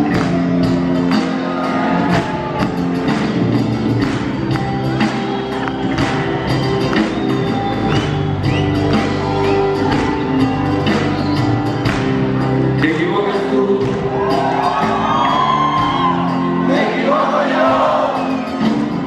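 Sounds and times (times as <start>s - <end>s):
live band playing: 0.0s - 19.0s
steady drum beat: 0.0s - 19.0s.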